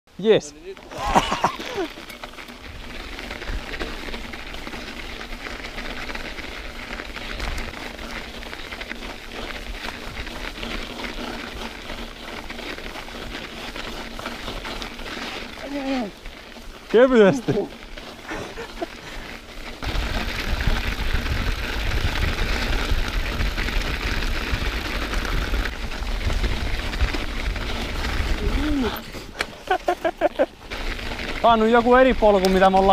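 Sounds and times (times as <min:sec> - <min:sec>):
bicycle tyres crunching on snow: 0:00.1 - 0:32.9.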